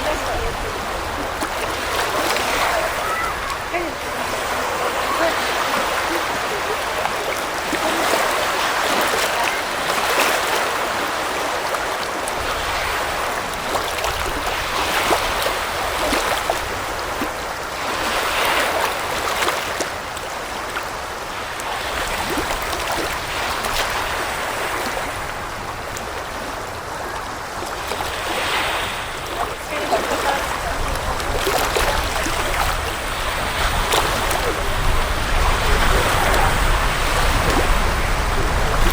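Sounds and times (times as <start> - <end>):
surf washing onto beach: 0.0 - 38.9.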